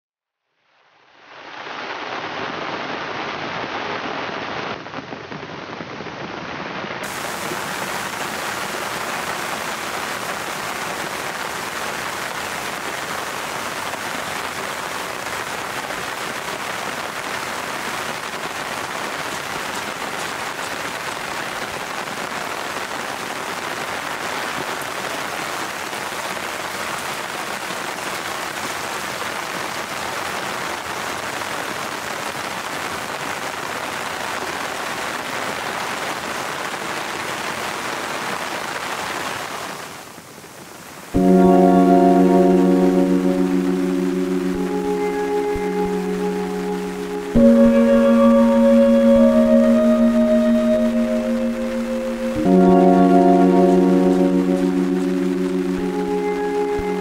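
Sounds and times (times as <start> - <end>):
heavy rain pouring: 6.6 - 57.0.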